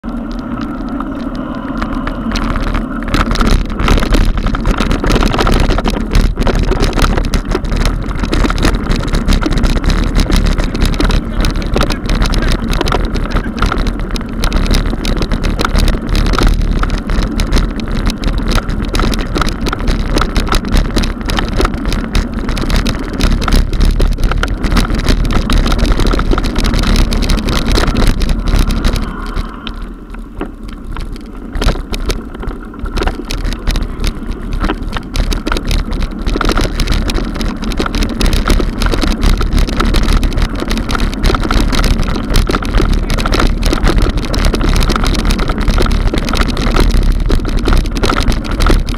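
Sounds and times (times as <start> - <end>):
bike rattling over stone paving: 0.0 - 48.9.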